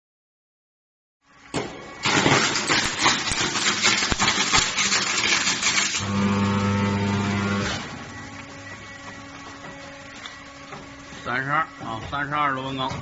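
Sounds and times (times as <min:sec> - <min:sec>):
steady electrical hum: 0:01.2 - 0:13.0
welding machine sputtering crackle: 0:01.3 - 0:12.9.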